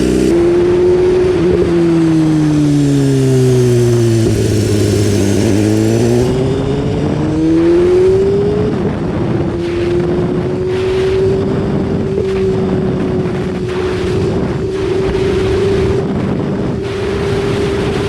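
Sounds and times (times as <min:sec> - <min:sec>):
motorcycle engine accelerating: 0:00.0 - 0:18.0
wind buffeting microphone: 0:00.0 - 0:18.0.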